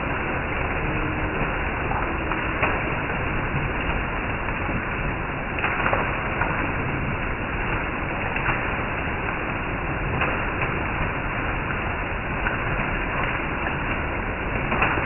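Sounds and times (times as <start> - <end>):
heavy rain: 0.0 - 15.0
water streaming off roof: 0.0 - 15.0.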